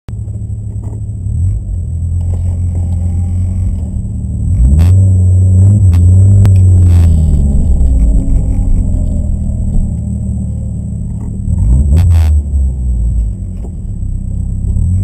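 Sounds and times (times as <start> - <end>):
car engine running: 0.1 - 15.0.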